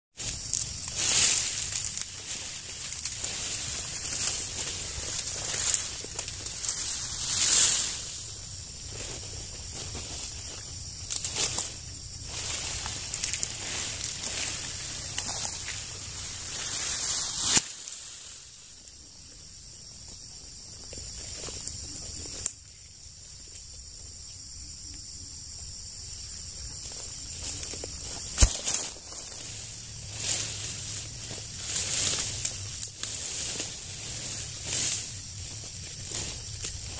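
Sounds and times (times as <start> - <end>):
leaves and fronds rustling: 0.1 - 24.5, 25.8 - 36.9
high-pitched insect drone: 0.2 - 36.9.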